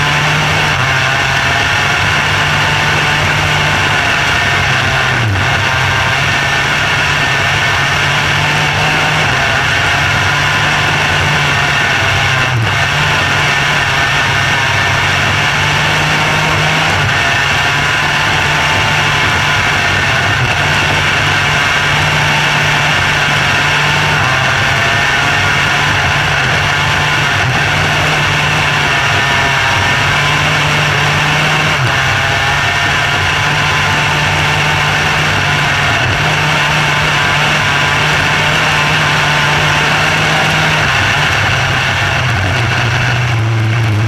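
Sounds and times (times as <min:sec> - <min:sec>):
racing car engine running hard: 0:00.0 - 0:44.0.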